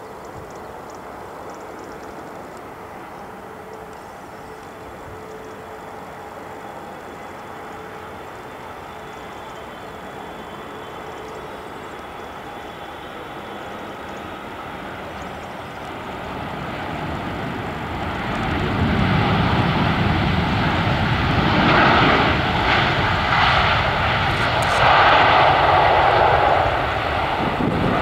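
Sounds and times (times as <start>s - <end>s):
jet engines roaring in reverse thrust: 0.9s - 28.0s.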